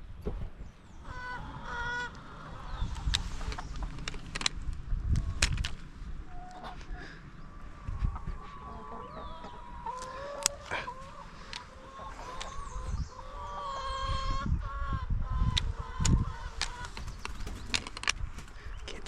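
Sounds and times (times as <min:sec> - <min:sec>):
wind rumble on microphone: 0:00.0 - 0:09.9, 0:11.5 - 0:19.0
hens clucking: 0:01.0 - 0:19.0.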